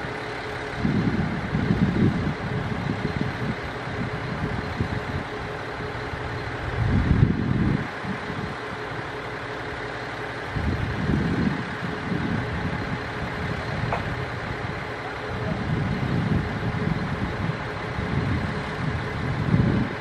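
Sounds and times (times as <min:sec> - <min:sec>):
distant electric train rumble: 0:00.0 - 0:20.0.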